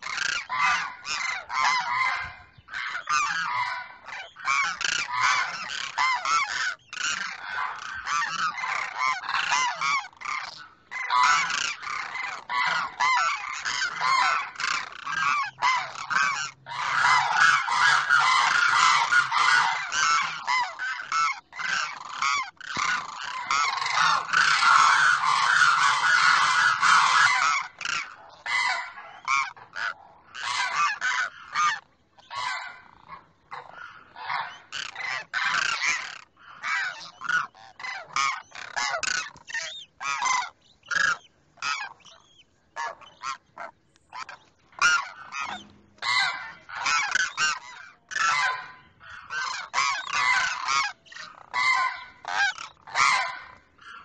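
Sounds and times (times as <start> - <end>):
cranes calling: 0.0 - 54.0.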